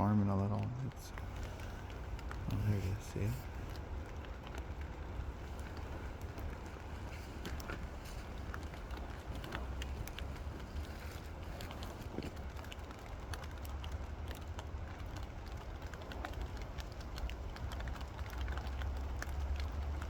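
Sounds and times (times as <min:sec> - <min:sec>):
raindrops pattering on leaves: 0:00.0 - 0:20.0
wind rumble on microphone: 0:00.0 - 0:20.0.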